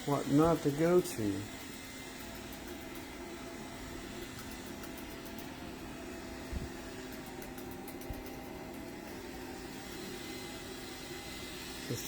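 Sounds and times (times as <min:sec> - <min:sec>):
robot vacuum fan and motor hum: 0:00.0 - 0:12.0.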